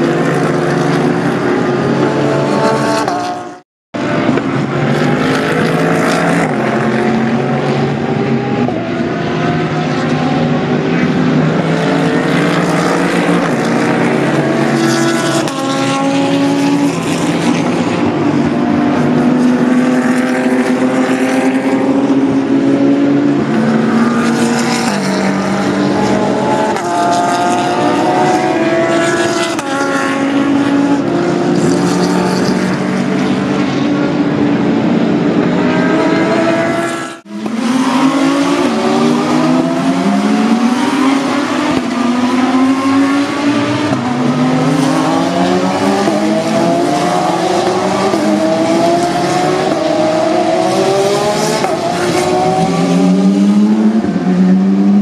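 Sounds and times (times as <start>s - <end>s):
race car engines with gear changes: 0.0s - 55.0s.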